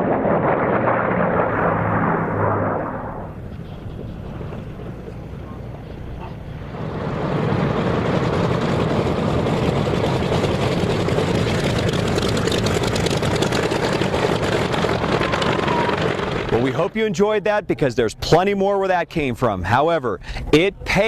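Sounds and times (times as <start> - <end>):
propeller plane engine: 0.0 - 17.0.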